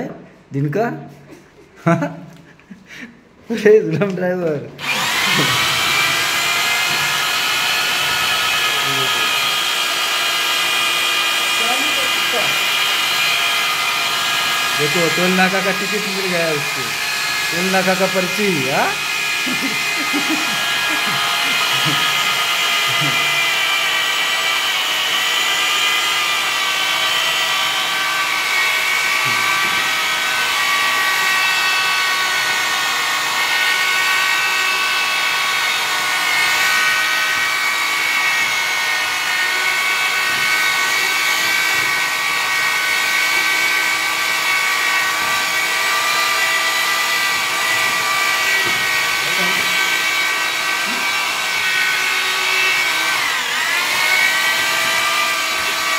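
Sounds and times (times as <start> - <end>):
drill mixer motor whining: 4.8 - 55.9.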